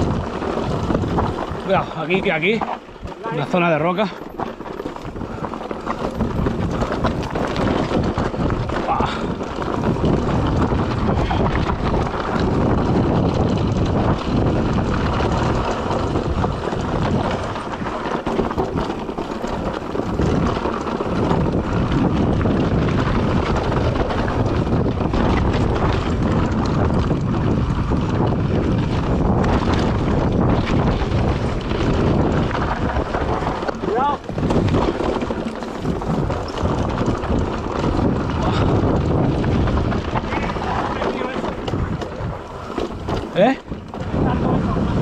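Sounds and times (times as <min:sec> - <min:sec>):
bike rattling over bumps: 0:00.0 - 0:45.0
tyres crunching over dirt and stones: 0:00.0 - 0:45.0
wind noise on microphone: 0:00.0 - 0:45.0.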